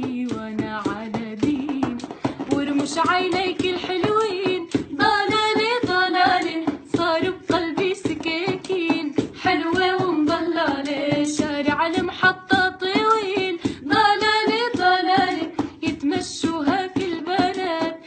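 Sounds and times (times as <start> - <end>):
woman singing folk song: 0.0 - 18.0.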